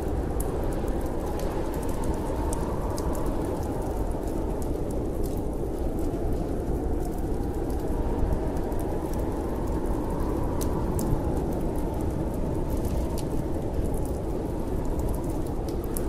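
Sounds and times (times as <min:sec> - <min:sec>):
snowstorm wind rushing: 0:00.0 - 0:16.0
wood fire crackling: 0:00.0 - 0:16.0.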